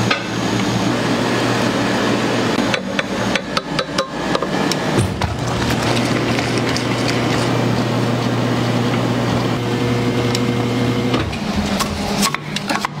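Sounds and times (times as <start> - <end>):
ice cream freezer motor humming: 0.0 - 13.0.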